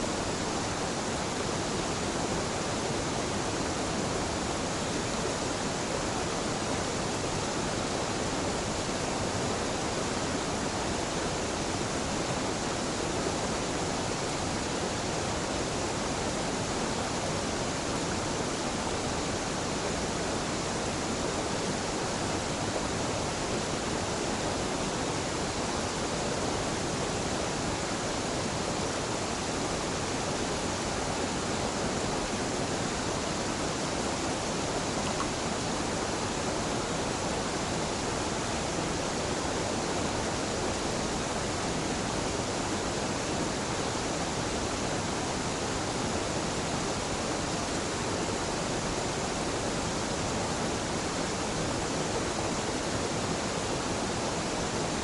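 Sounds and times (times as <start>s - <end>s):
small waterfall rushing: 0.0s - 55.0s.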